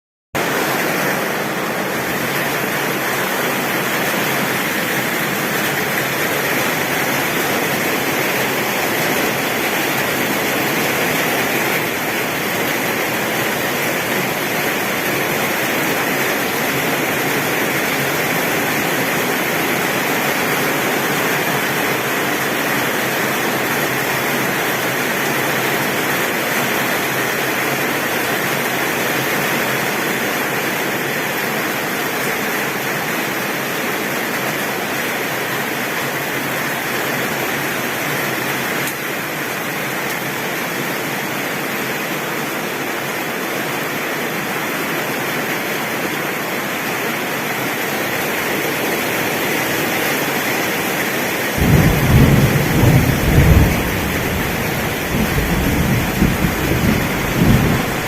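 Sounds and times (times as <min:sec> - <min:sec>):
heavy rain on a tin roof: 0:00.4 - 0:58.0.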